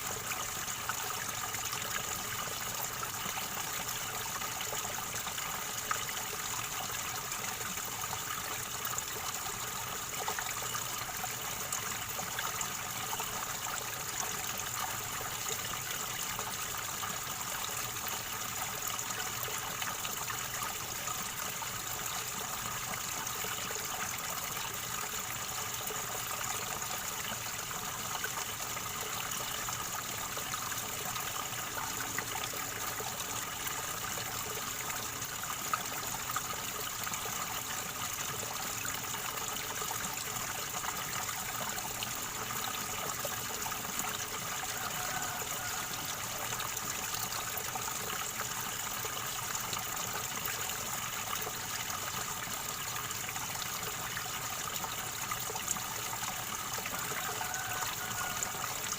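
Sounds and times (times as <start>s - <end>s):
river water gurgling over stones: 0.0s - 58.9s.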